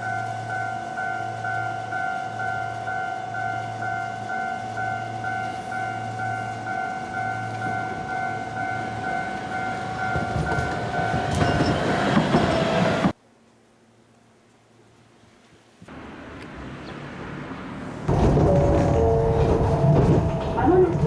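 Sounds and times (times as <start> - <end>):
tram running on rails: 0.0 - 13.2, 15.9 - 21.0.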